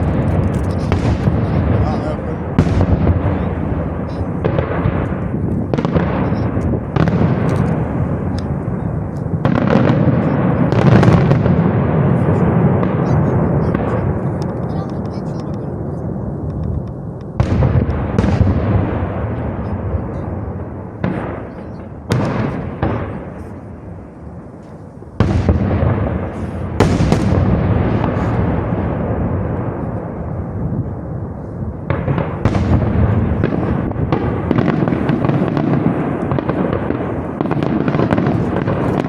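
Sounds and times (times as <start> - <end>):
rumble of firework bursts: 0.0 - 39.0
sharp firework bangs and crackles: 0.0 - 39.0.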